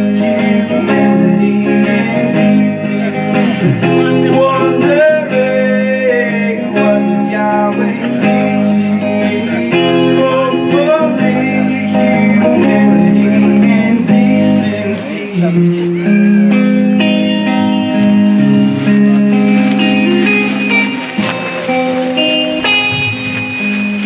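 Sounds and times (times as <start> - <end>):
live band with guitar: 0.0 - 24.0.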